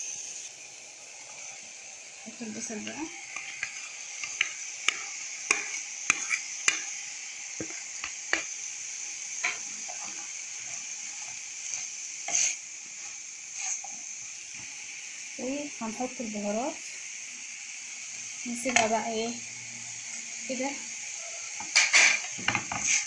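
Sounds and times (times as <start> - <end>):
meat sizzling in a pan: 0.0 - 23.0.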